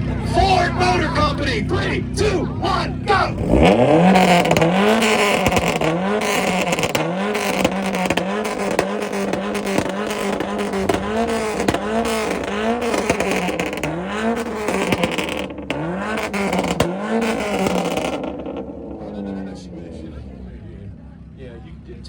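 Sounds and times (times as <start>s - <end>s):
exhaust pops and crackles: 0.0s - 20.6s
car engine revving: 0.0s - 22.0s.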